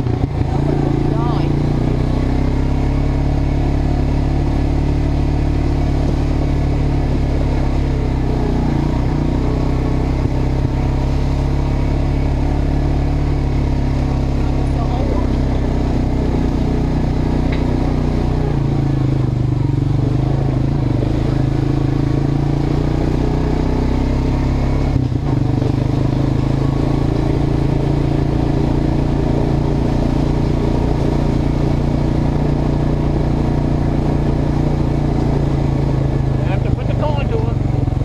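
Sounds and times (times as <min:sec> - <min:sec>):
atv engine running: 0:00.0 - 0:38.0.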